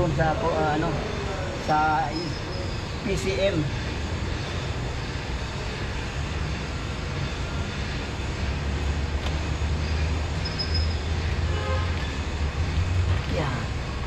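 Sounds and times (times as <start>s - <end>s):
engine rumbling with mechanical hiss: 0.0s - 14.0s.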